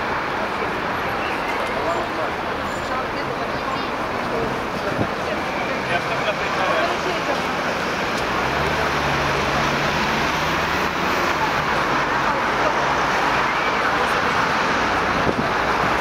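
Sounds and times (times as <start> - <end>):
crowd noise: 0.0 - 16.0
traffic: 0.0 - 16.0.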